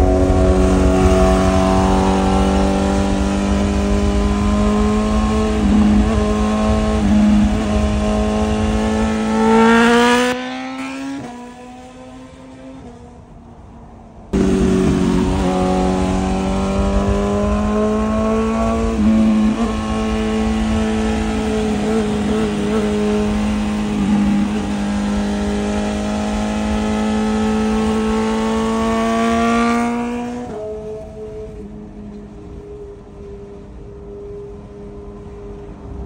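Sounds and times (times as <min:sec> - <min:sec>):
motorcycle engine at speed: 0:00.0 - 0:13.5, 0:14.3 - 0:36.0.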